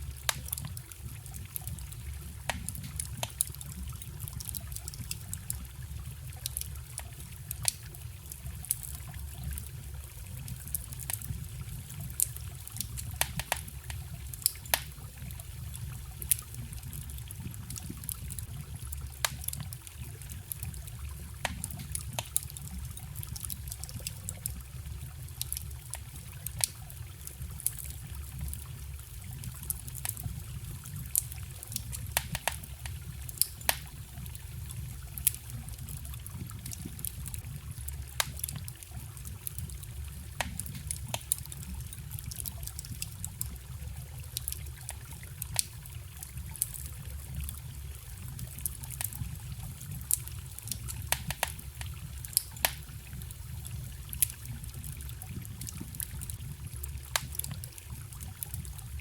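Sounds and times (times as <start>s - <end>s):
campfire crackling and popping: 0.0s - 59.0s
small stream trickling: 0.0s - 59.0s.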